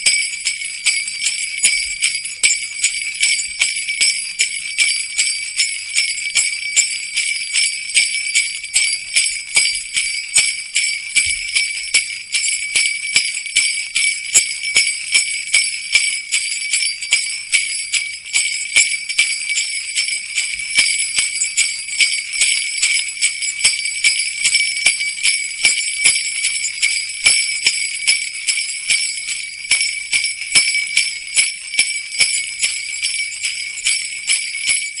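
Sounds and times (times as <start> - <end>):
jingle bells shaken: 0.0 - 35.0.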